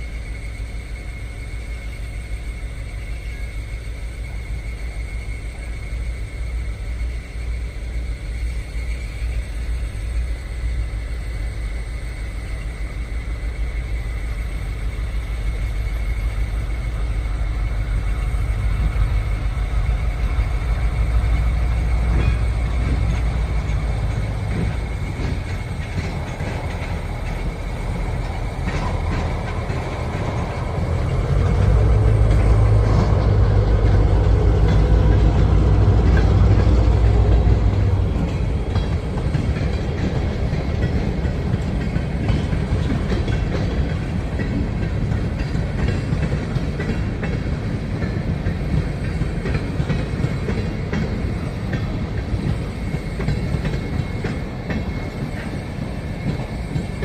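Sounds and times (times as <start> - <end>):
diesel locomotive engine rumbling: 0.0 - 57.0
rail car wheels clattering: 0.0 - 57.0.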